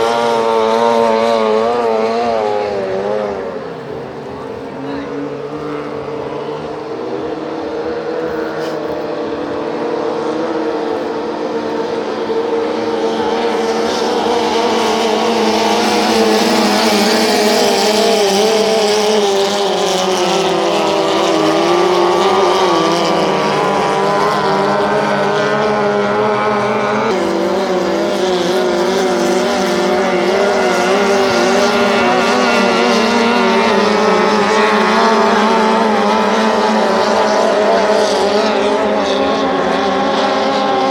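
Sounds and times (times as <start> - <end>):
racing boat outboard motors: 0.0 - 40.9.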